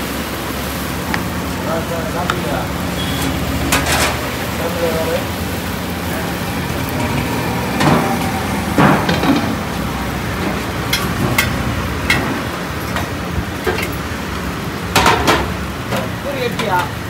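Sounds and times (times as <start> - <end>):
water sizzling on hot griddle: 0.0 - 17.0.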